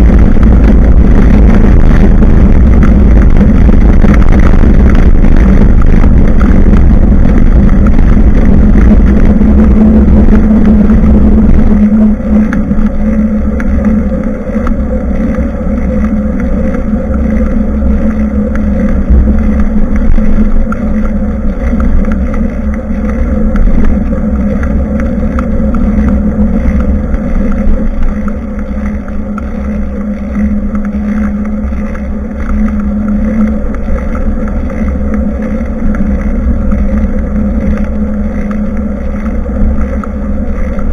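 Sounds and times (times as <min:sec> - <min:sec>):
bicycle riding rumble: 0:00.0 - 0:40.9
low hum: 0:00.0 - 0:40.9
wind buffeting microphone: 0:00.0 - 0:40.9.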